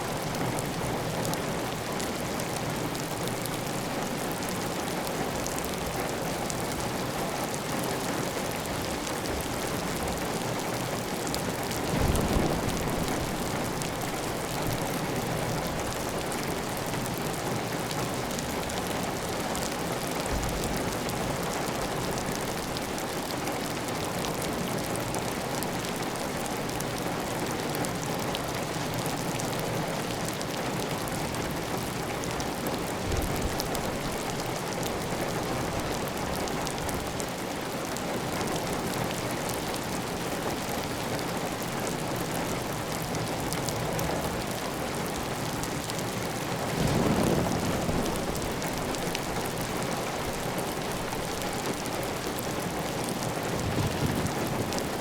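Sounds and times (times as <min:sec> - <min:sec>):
heavy rain on a tile roof: 0:00.0 - 0:55.0.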